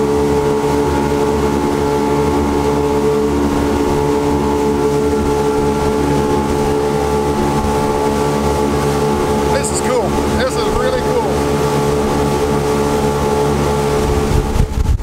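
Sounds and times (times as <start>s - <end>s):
motorboat engine running: 0.0s - 15.0s
rush of wind and water: 0.0s - 15.0s.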